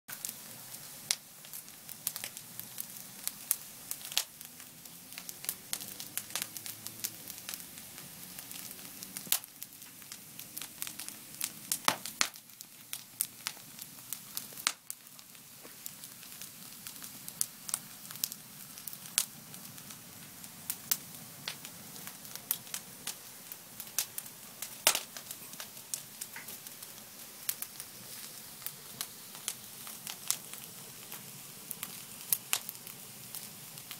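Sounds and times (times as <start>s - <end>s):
soft steady hiss: 0.1s - 33.9s
wood fire crackling and popping: 0.1s - 33.9s.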